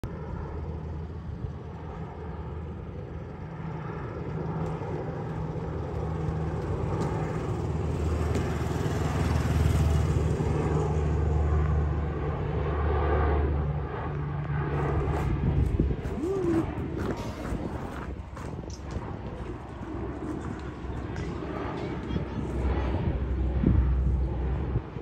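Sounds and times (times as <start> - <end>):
propeller plane drone overhead: 0.0 - 25.0.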